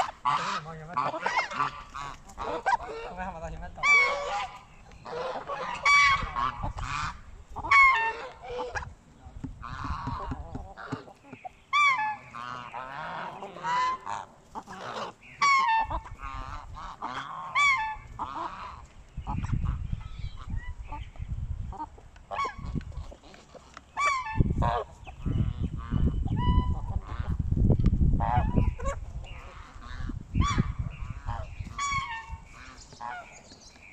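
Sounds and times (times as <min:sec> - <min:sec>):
geese honking: 0:00.0 - 0:21.1, 0:21.7 - 0:27.4, 0:28.2 - 0:33.5.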